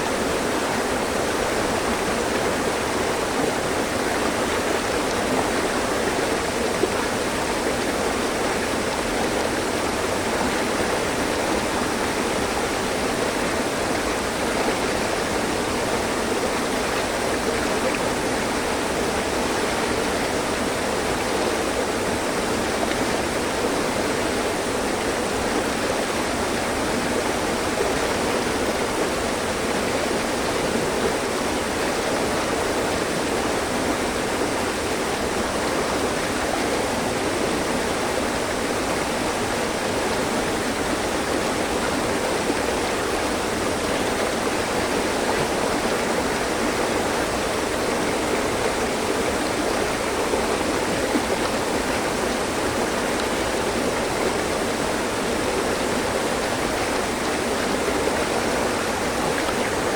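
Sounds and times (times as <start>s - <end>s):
stream water splashing over rocks: 0.0s - 59.9s.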